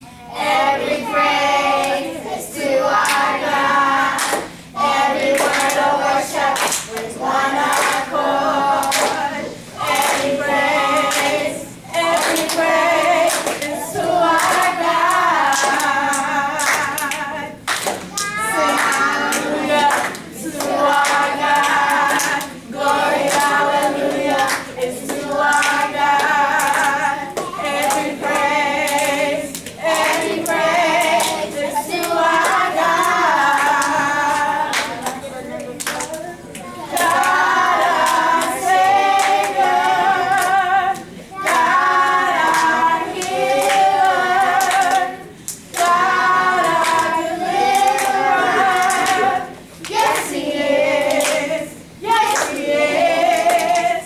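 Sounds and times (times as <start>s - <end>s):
vocal group singing a cappella: 0.0s - 54.0s.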